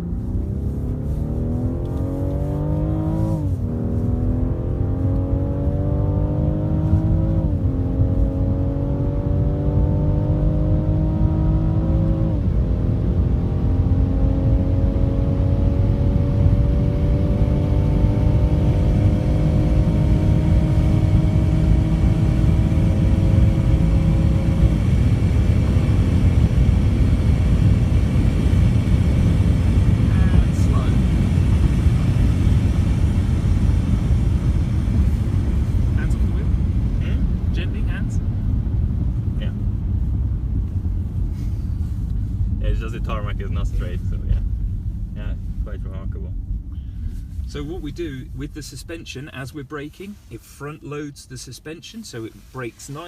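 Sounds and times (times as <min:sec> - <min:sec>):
car engine accelerating: 0:00.0 - 0:50.6
road and wind noise: 0:00.0 - 0:53.0.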